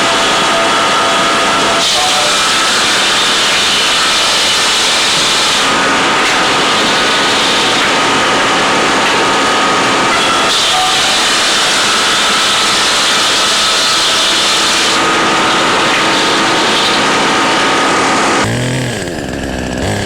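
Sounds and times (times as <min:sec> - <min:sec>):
heavy machinery running: 0:00.0 - 0:20.0.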